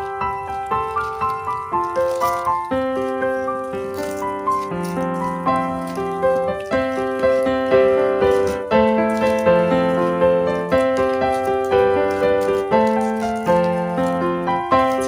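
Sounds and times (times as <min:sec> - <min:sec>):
piano-like keyboard melody: 0:00.0 - 0:15.0.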